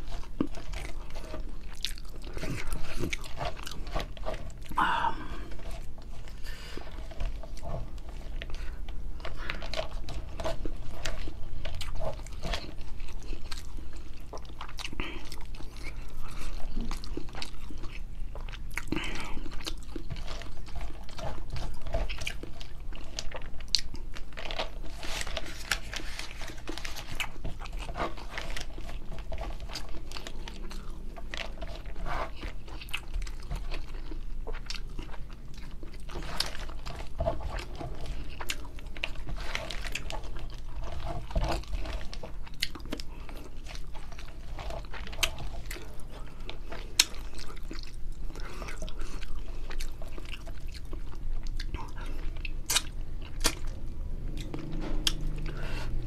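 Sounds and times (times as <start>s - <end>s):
person chewing with wet clicks: 0.0s - 56.0s.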